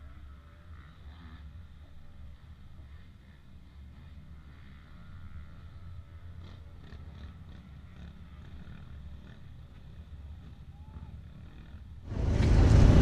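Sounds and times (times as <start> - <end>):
dirt bike engines droning: 0.0 - 13.0.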